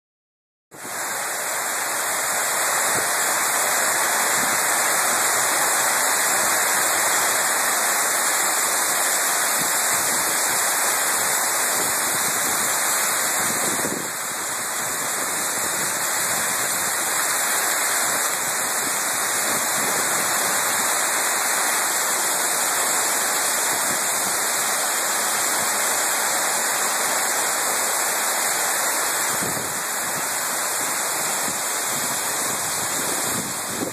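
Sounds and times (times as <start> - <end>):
heavy rain pouring: 0.7 - 33.9.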